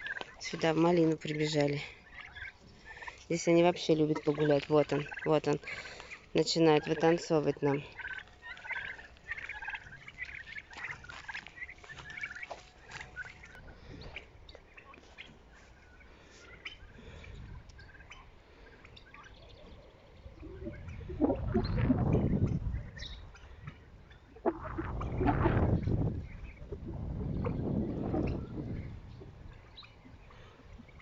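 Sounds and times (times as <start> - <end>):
young turkeys chirping: 0.0 - 31.0.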